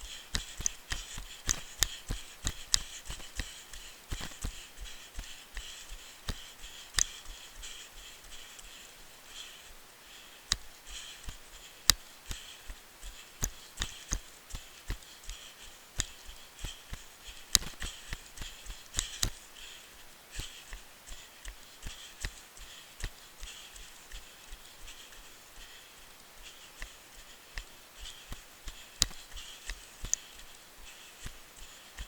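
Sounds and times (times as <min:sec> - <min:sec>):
running footsteps on dirt trail: 0:00.0 - 0:09.6, 0:10.2 - 0:32.0.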